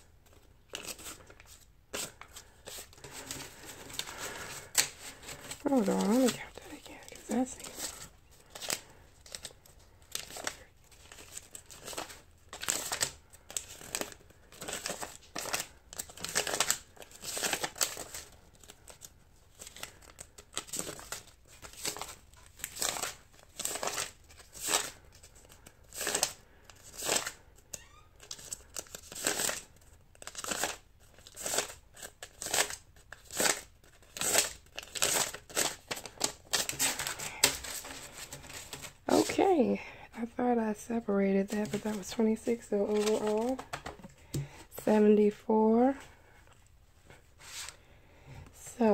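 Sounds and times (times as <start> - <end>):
paper bills rustling: 0.3 - 39.4, 41.4 - 44.7.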